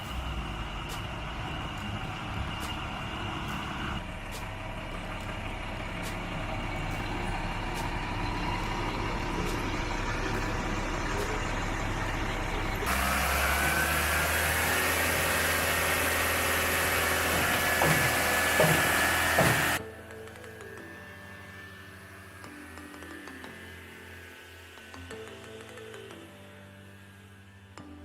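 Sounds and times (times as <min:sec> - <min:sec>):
heavy engine running: 0:00.0 - 0:27.7.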